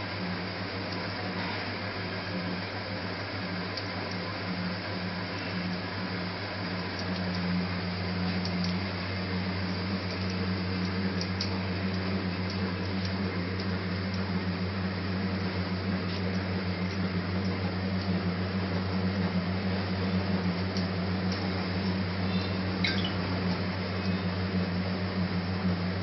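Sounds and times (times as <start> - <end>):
machine humming with hiss: 0.0 - 26.0.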